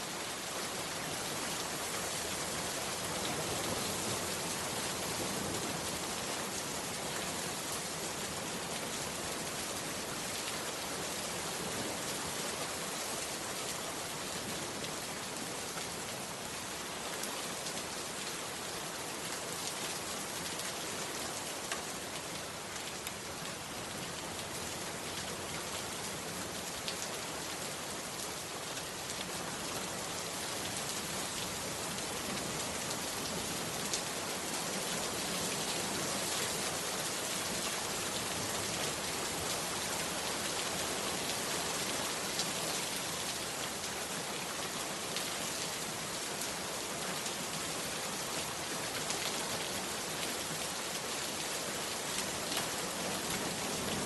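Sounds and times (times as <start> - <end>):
heavy rain falling: 0.1 - 54.0.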